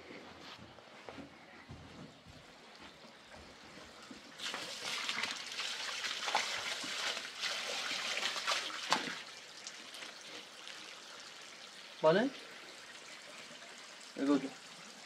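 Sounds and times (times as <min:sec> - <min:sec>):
water running and splashing: 0:02.8 - 0:15.0.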